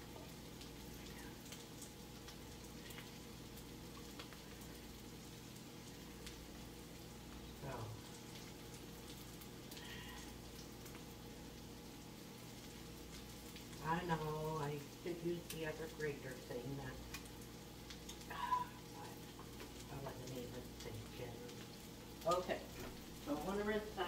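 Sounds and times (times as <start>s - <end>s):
light kitchen clicks and crackle: 0.0s - 24.0s
steady appliance hum: 0.0s - 24.0s.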